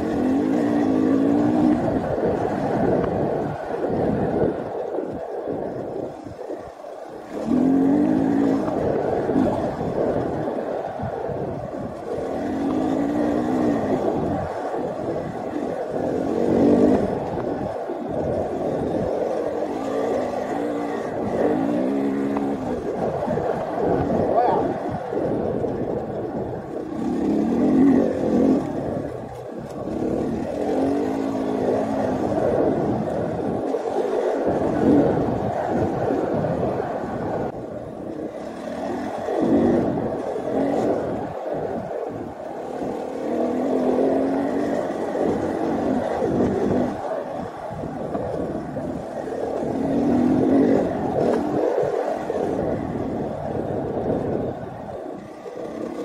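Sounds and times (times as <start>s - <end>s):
dirt bike engine revving: 0.0s - 4.0s, 7.2s - 10.7s, 11.7s - 41.3s, 42.2s - 53.5s, 55.2s - 56.0s.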